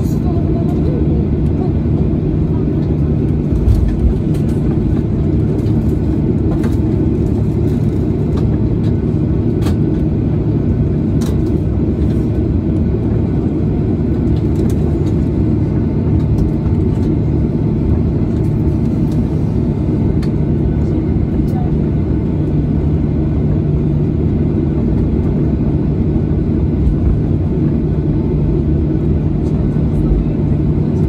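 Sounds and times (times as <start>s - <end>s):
airliner cabin rumble: 0.0s - 31.0s.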